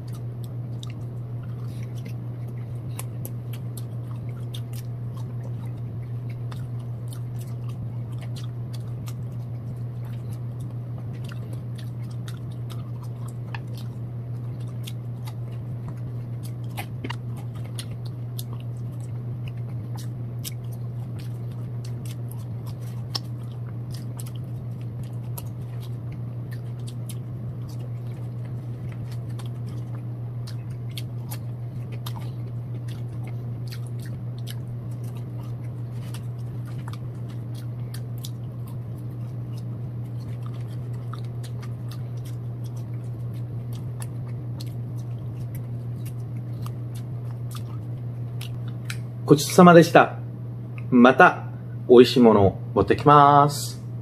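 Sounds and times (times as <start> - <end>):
person chewing fries: 0.0 - 50.0
steady low hum: 0.0 - 54.0.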